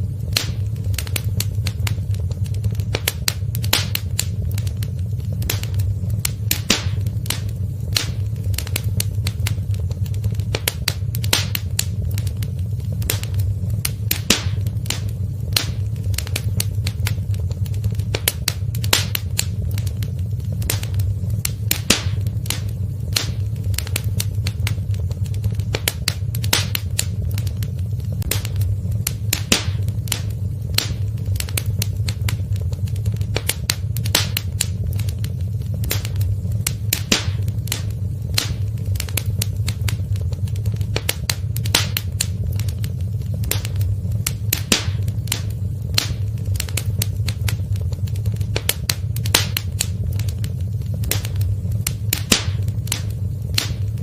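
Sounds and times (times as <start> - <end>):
low rumble: 0.0 - 54.0
wood fire crackling: 0.0 - 54.0.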